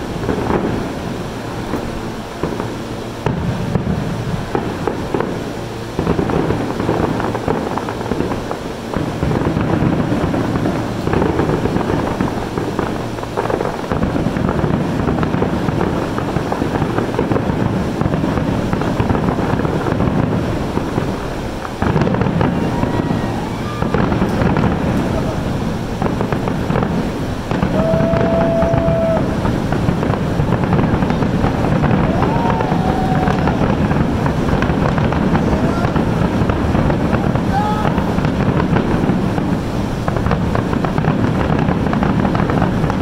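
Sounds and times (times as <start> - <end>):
fireworks bursting: 0.0 - 43.0.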